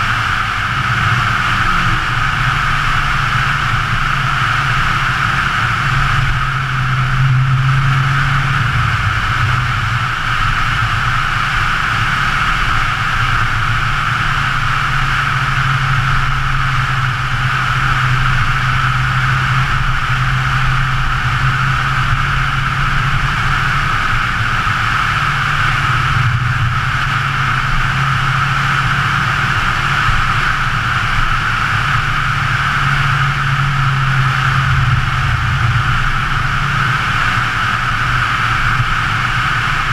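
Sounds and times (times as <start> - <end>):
car engine cruising: 0.0 - 39.9
wind and road noise: 0.0 - 39.9.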